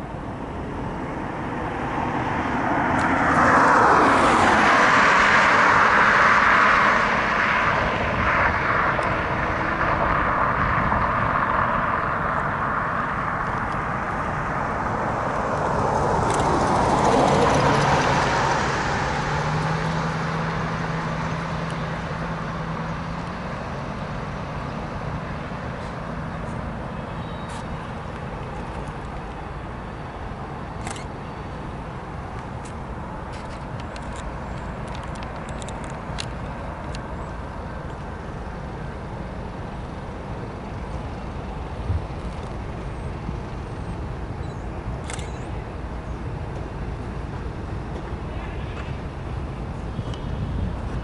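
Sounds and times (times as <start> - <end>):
cars passing close by: 0.0 - 51.0.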